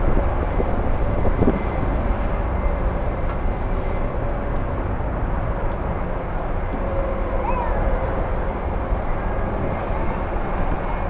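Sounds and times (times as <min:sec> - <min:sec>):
distant jet engines running: 0:00.0 - 0:11.0
wind rumble on microphone: 0:00.0 - 0:11.0.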